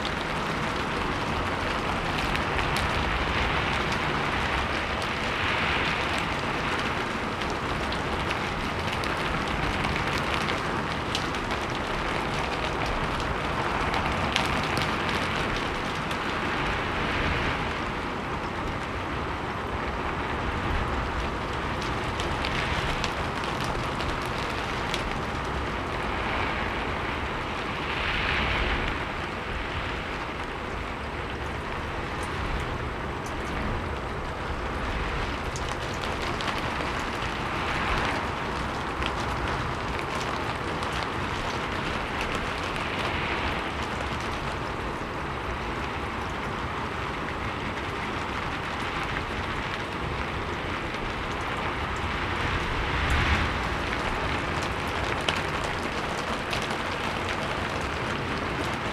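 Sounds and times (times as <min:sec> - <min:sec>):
rain pattering on a roof: 0:00.0 - 0:58.9
wind gusts: 0:00.0 - 0:58.9.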